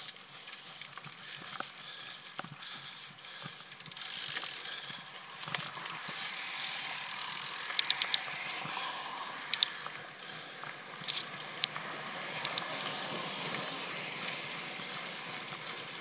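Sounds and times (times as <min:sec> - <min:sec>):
bike chain rattling: 0:00.0 - 0:11.6, 0:12.2 - 0:16.0.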